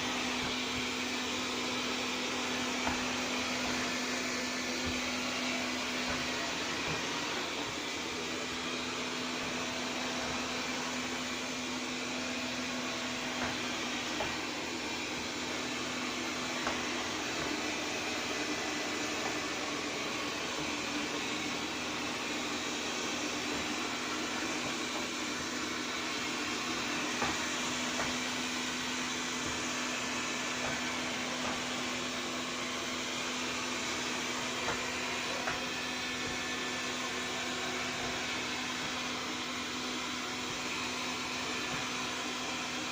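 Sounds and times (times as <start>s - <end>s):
robot vacuum running: 0.0s - 42.9s.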